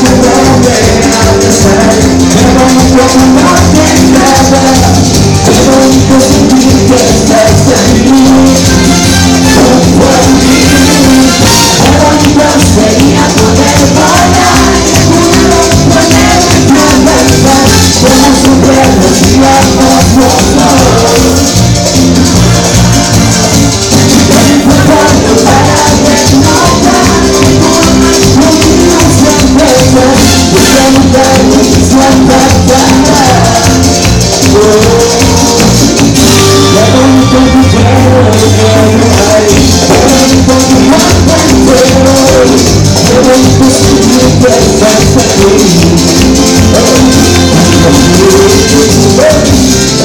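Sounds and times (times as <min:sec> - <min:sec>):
latin dance band music: 0:00.0 - 0:50.0
shaker beat: 0:00.0 - 0:50.0.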